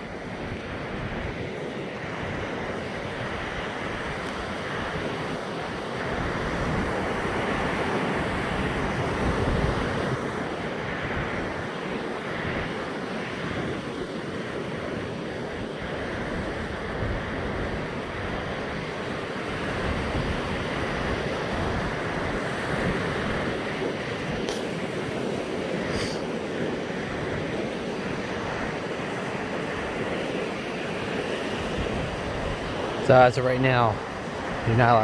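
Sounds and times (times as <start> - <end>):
ocean surf rushing: 0.0 - 35.0
wind buffeting microphone: 0.0 - 35.0.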